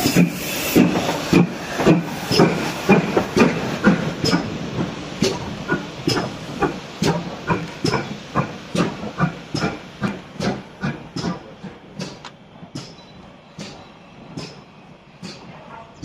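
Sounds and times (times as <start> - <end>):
steam hissing: 0.0 - 16.0
steam locomotive exhaust beats: 0.0 - 16.0.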